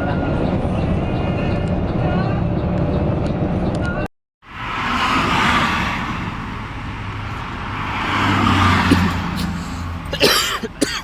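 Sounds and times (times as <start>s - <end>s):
bus engine running: 0.0s - 11.0s
road noise: 0.0s - 11.0s.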